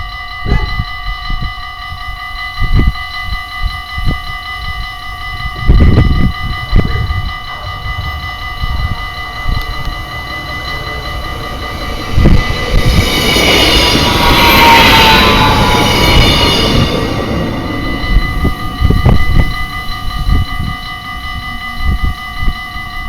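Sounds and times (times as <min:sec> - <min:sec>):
level crossing bell ringing: 0:00.0 - 0:23.0
train wheel and rail noise: 0:00.0 - 0:23.0
high whine: 0:02.6 - 0:23.0.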